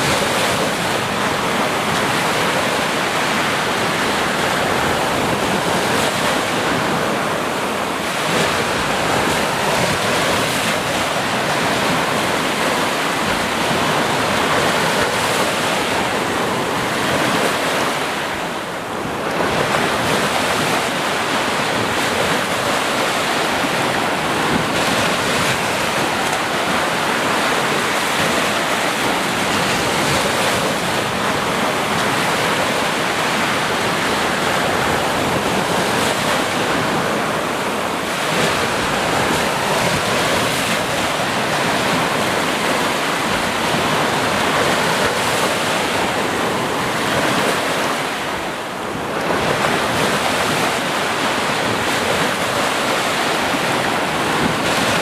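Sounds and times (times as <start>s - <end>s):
sea waves breaking: 0.0s - 55.0s.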